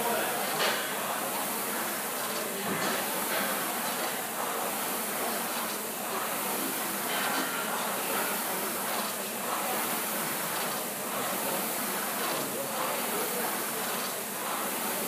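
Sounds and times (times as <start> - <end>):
rowing machine flywheel whooshing: 1.1 - 15.0.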